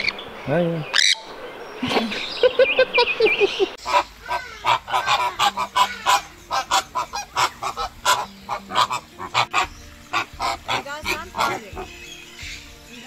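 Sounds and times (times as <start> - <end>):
flamingos honking: 0.0 - 1.8, 2.5 - 13.0.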